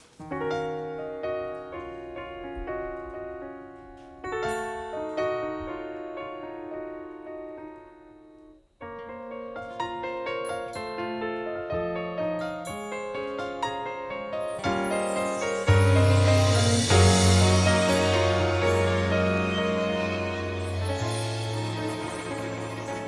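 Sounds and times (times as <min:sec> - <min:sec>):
piano chords ringing: 0:00.0 - 0:23.0.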